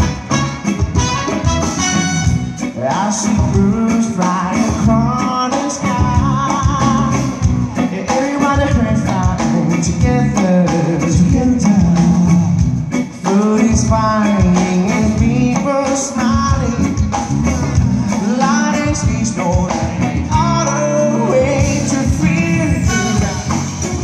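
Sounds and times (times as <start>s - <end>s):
live rock band playing: 0.0s - 24.0s
lead singer singing: 2.6s - 24.0s.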